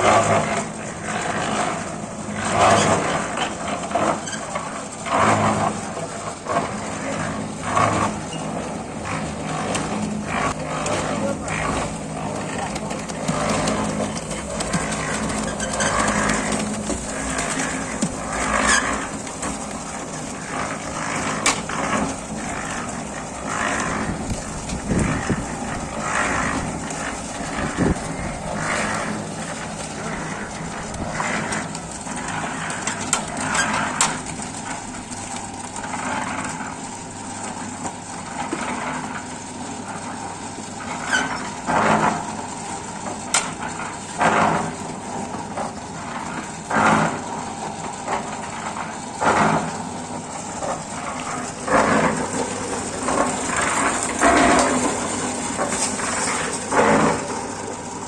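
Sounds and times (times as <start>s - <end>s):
concrete mixer running: 0.0s - 58.0s.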